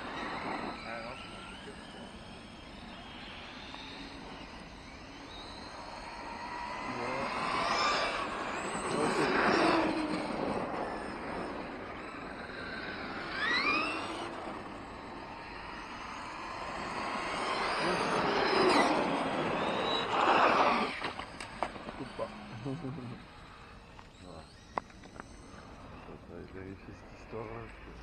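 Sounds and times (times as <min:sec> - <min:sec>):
electric motors whining: 0:00.0 - 0:28.0.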